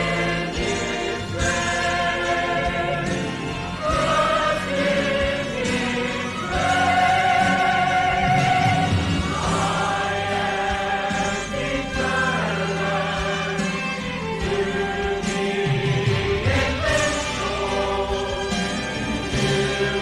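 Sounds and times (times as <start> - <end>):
choir singing gospel: 0.0 - 20.0.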